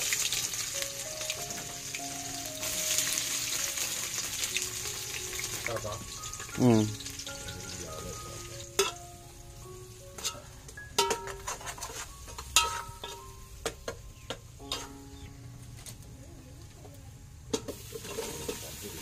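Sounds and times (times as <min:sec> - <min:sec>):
faint sizzle: 0:00.0 - 0:19.0.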